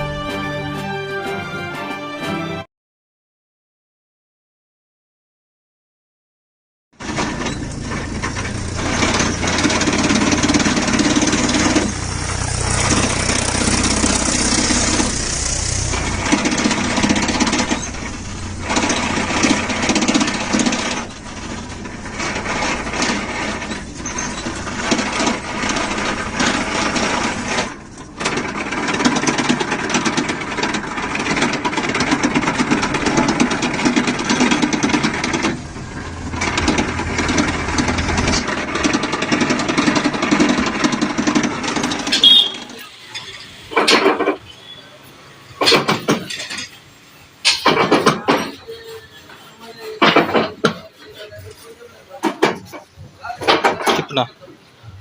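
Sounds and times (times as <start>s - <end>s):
tractor diesel engine clattering: 0.0s - 0.8s, 7.0s - 55.0s.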